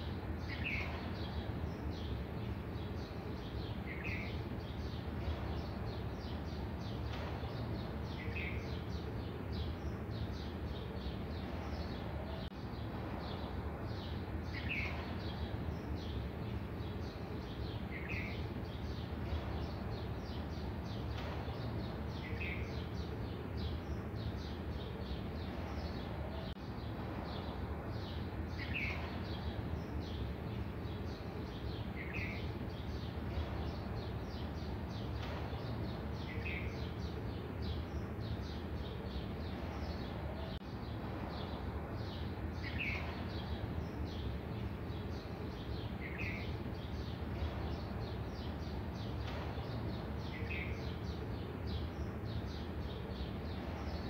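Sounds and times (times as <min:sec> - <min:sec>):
birds twittering: 0:00.0 - 0:54.0
low background noise: 0:00.0 - 0:54.0.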